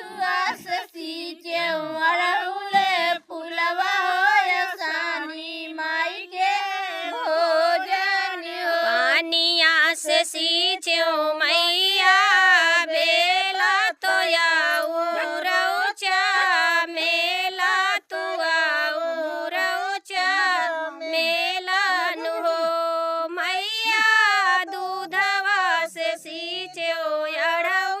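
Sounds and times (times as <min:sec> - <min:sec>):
woman singing devotional song: 0:00.0 - 0:28.0.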